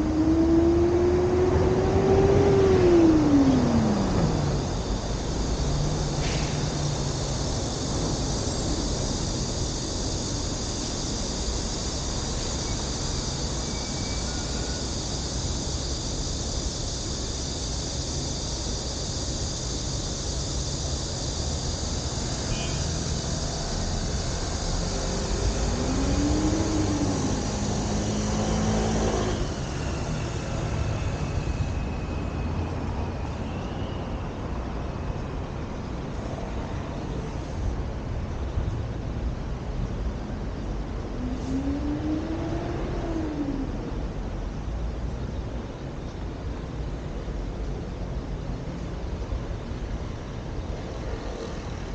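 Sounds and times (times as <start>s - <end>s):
road traffic noise: 0.0s - 51.9s.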